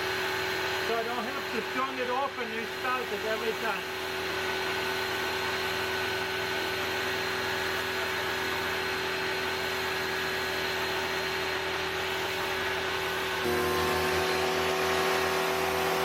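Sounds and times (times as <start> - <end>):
pressure washer motor humming: 0.0 - 16.0.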